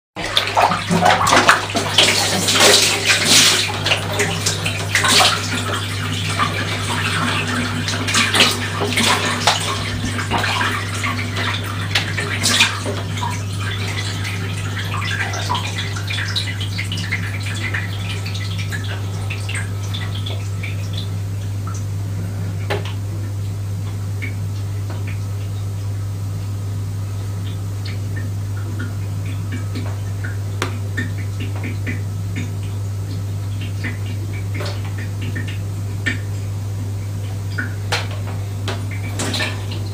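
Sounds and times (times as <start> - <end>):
steady low hum: 0.2 - 39.9
water sloshing in a bathtub: 0.2 - 39.9.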